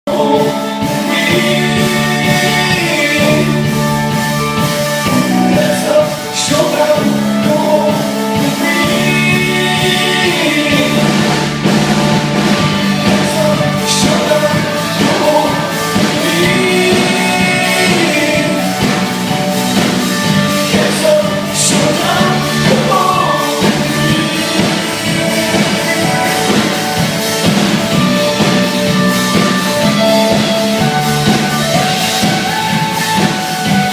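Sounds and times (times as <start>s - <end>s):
drums: 0.0s - 33.9s
person singing: 0.0s - 33.9s
guitars: 0.1s - 33.9s.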